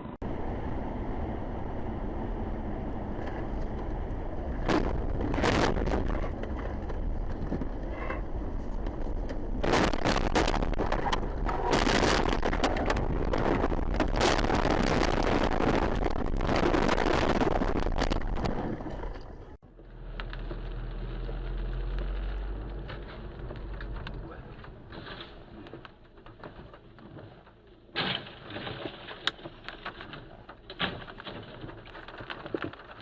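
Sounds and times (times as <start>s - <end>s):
car road and engine rumble: 0.0s - 33.0s
crackling and knocking: 3.0s - 33.0s.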